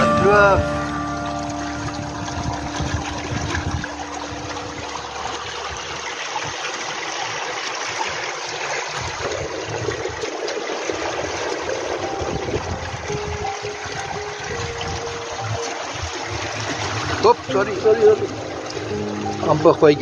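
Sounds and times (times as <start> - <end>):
water rushing along boat hull: 0.0 - 20.0.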